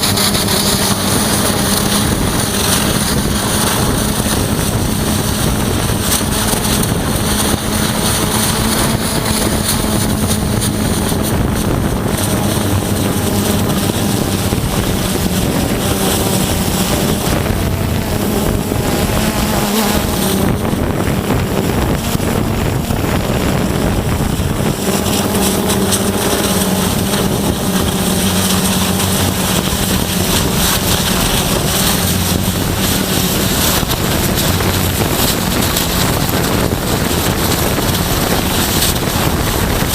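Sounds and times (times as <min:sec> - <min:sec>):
high-pressure water jetting: 0:00.0 - 0:39.9
machine drone: 0:00.0 - 0:39.9.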